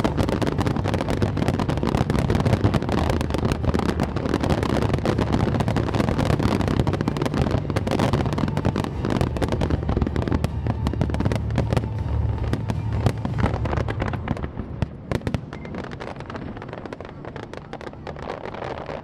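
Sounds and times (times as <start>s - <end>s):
continuous rumble: 0.0s - 19.0s
fireworks bangs and crackling: 0.0s - 19.0s.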